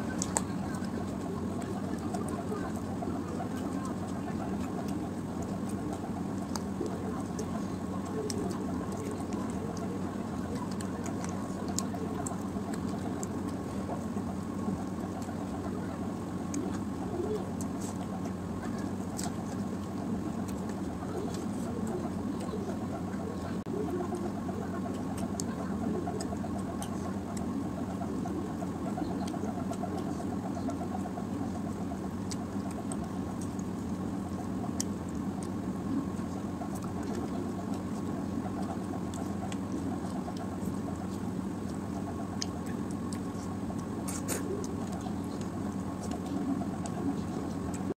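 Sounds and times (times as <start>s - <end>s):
person chewing: 0.0s - 22.6s, 24.9s - 47.9s
motor hum: 0.0s - 48.0s.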